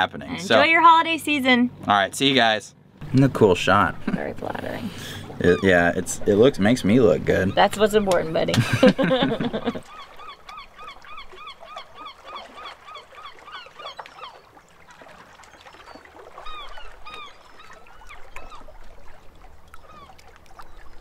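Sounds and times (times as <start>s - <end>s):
birds calling: 3.0s - 21.0s.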